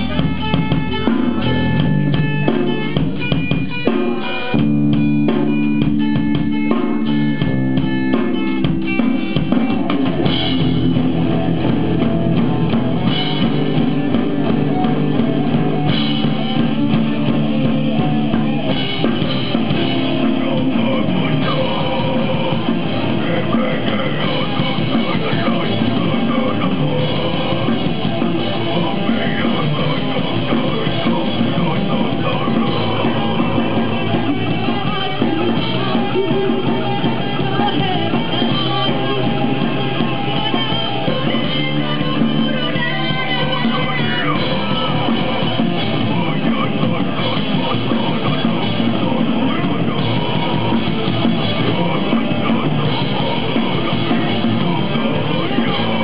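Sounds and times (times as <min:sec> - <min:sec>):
bass guitar: 0:00.0 - 0:56.0
drum kit: 0:00.0 - 0:56.0
electric guitars: 0:00.0 - 0:56.0.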